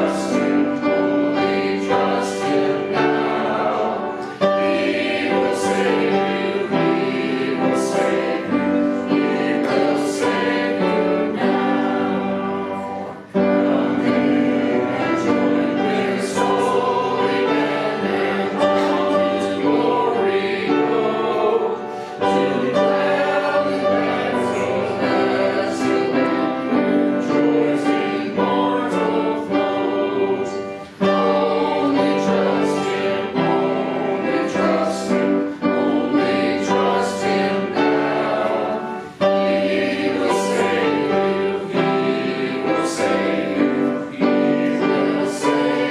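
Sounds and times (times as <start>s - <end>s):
congregation singing a hymn: 0.0s - 45.9s
instrumental accompaniment: 0.0s - 45.9s.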